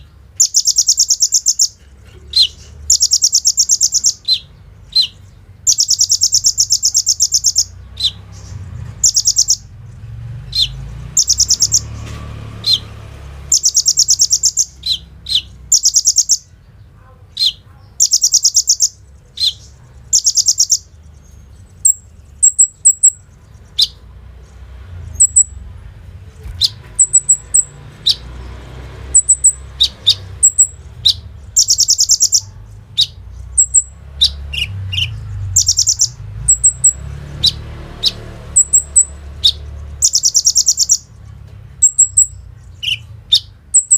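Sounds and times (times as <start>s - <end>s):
bird high twittering: 0.0s - 9.8s, 10.5s - 16.5s, 17.3s - 24.1s, 25.0s - 25.6s, 26.5s - 28.4s, 29.0s - 41.2s, 41.8s - 43.9s
bird sharp chips: 0.3s - 9.7s, 10.5s - 16.5s, 17.3s - 24.1s, 26.3s - 43.9s.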